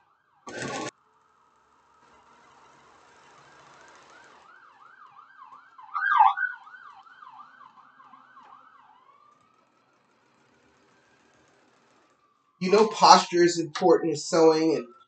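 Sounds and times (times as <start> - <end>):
emergency vehicle siren: 0.0 - 15.0.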